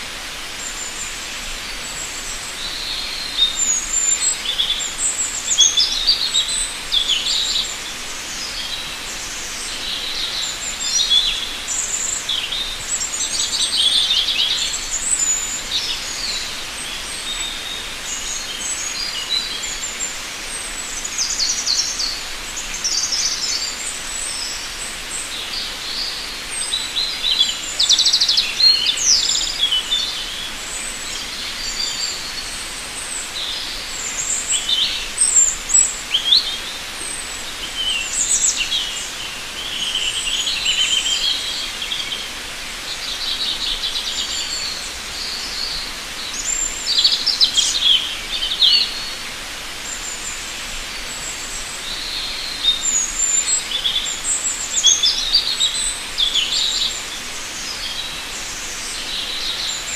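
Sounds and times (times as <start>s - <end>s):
songbirds chirping and trilling: 0.0s - 59.9s
steady hiss: 0.0s - 59.9s.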